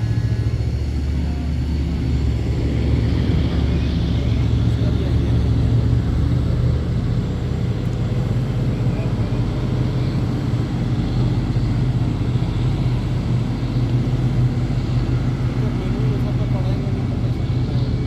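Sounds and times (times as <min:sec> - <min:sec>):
heavy machinery engine drone: 0:00.0 - 0:18.0.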